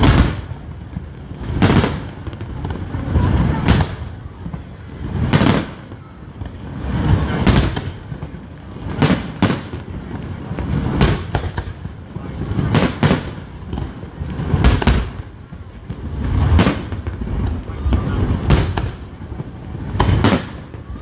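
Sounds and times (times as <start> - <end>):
fireworks bursting with loud bangs: 0.0 - 21.0.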